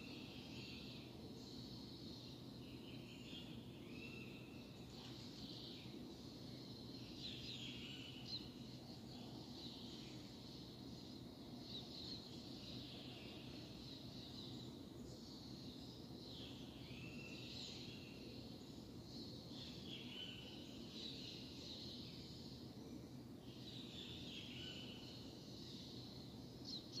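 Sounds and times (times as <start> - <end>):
faint birds chirping: 0.0 - 27.0
low background noise: 0.0 - 27.0.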